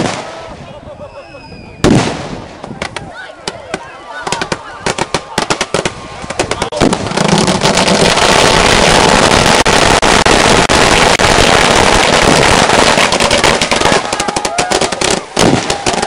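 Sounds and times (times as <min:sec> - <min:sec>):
firecrackers going off: 0:00.0 - 0:00.9, 0:01.6 - 0:03.1, 0:03.7 - 0:16.0.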